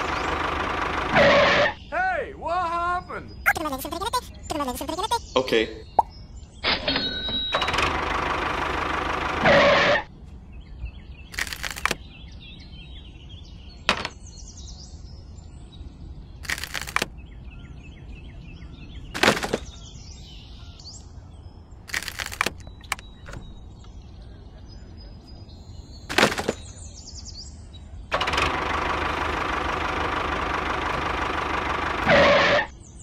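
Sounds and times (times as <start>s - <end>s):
faint birdsong: 0.0s - 33.0s.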